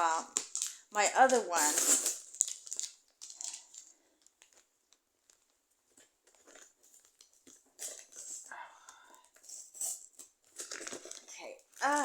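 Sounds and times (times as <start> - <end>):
packaging rustling and crinkling: 0.0 - 8.5, 9.2 - 12.0.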